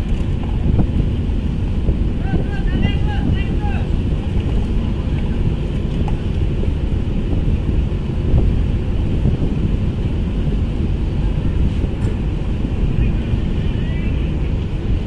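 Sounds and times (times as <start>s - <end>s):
ship engines running: 0.0s - 15.0s
wind buffeting microphone: 0.0s - 15.0s.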